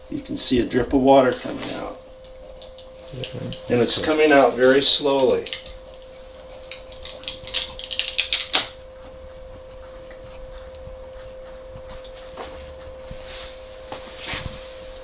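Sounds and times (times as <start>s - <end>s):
high-pitched hum: 0.0s - 15.0s.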